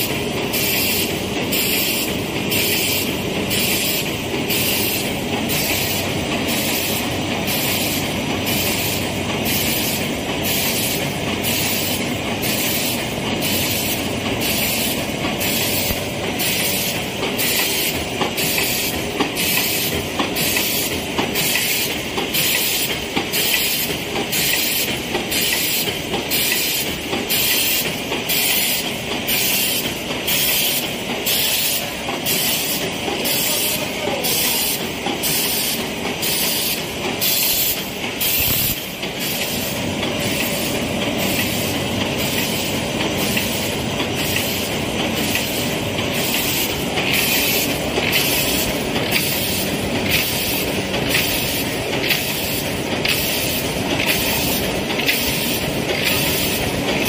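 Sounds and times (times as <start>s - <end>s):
machine noise: 0.0s - 57.0s
conveyor chain clatter: 0.1s - 57.0s.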